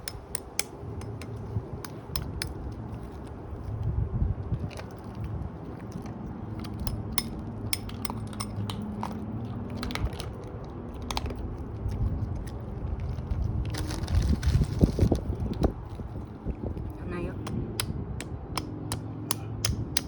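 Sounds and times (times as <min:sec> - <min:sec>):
dog chewing with sharp crunches: 0:00.0 - 0:16.9
steady low hum: 0:00.0 - 0:20.0.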